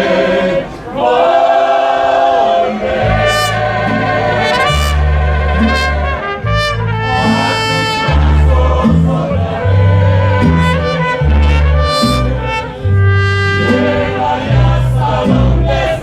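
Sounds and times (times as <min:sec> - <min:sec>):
mariachi band with trumpets: 0:00.0 - 0:16.0
low bass line: 0:02.9 - 0:16.0.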